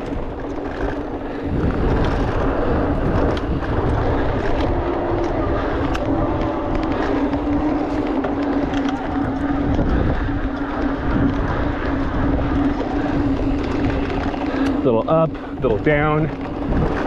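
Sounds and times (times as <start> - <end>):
bike clicks and rattles: 0.0 - 17.0
steady low hum: 0.0 - 17.0
tyres rumbling on dirt: 0.0 - 17.0
wind rushing over microphone: 0.0 - 17.0.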